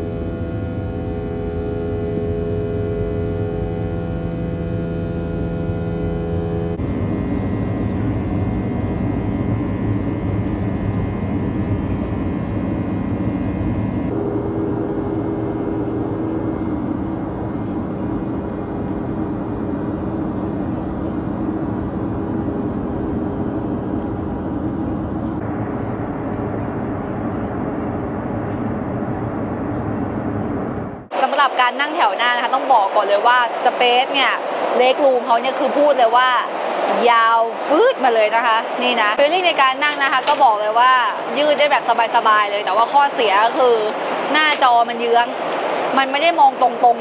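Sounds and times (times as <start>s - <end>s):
faint whine: 0.0s - 47.0s
jet engine and airflow rush: 0.0s - 47.0s.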